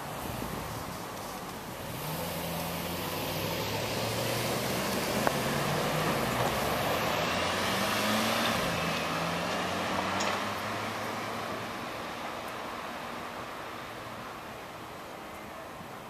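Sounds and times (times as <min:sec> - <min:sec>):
road noise hiss: 0:00.0 - 0:16.0
traffic engine hum: 0:00.0 - 0:16.0.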